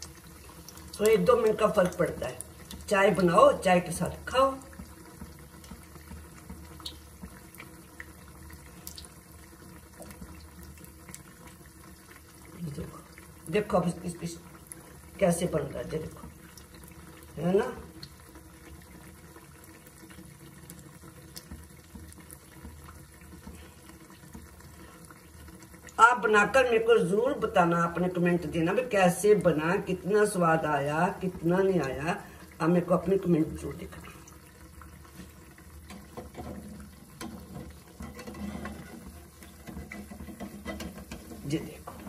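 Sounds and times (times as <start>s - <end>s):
deep-frying sizzle with crackles: 0.0s - 42.0s.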